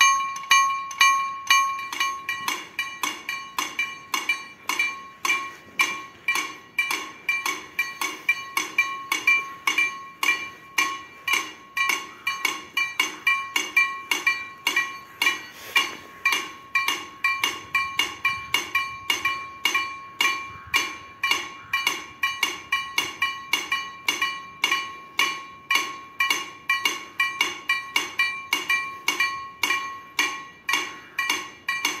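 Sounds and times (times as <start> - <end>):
level-crossing warning bells: 0.0 - 32.0.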